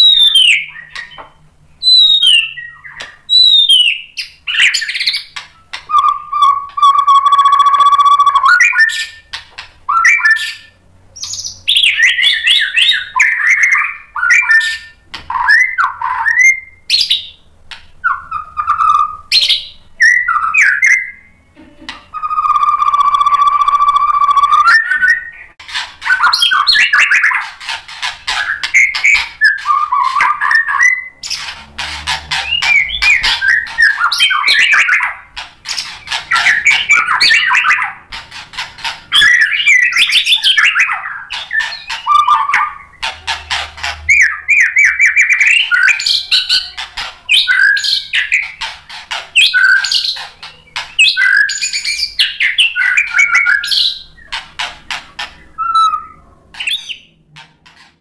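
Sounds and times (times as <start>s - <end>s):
bird singing whistles and trills: 0.0s - 21.5s, 22.1s - 27.5s, 28.3s - 31.6s, 32.3s - 38.0s, 38.8s - 43.1s, 44.1s - 48.7s, 49.4s - 54.4s, 55.4s - 57.2s.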